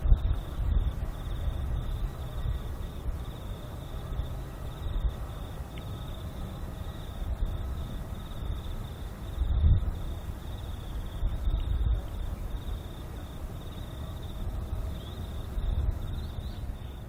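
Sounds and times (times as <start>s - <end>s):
insects chirping: 0.0s - 17.0s
wind buffeting microphone: 0.0s - 17.0s.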